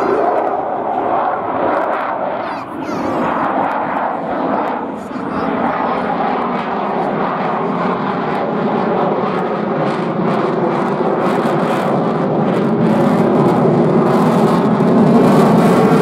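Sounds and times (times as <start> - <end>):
jet fighter roar: 0.0 - 16.0.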